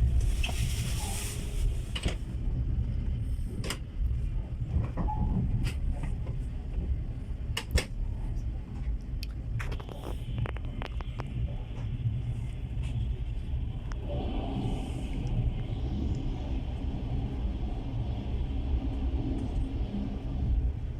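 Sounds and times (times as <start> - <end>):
train car rumble: 0.0 - 20.9.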